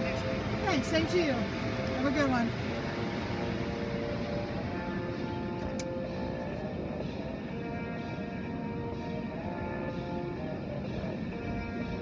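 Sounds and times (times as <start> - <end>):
music with held notes: 0.0 - 12.0
steady low rumble: 0.0 - 12.0.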